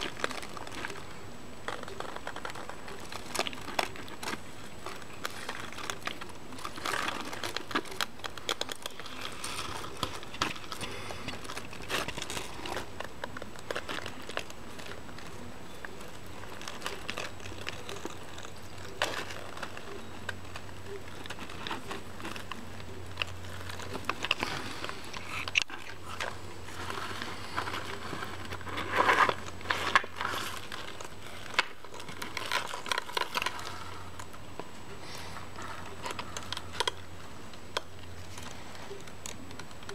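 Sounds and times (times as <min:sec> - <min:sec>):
tortoises rustling in dry hay: 0:00.0 - 0:39.0.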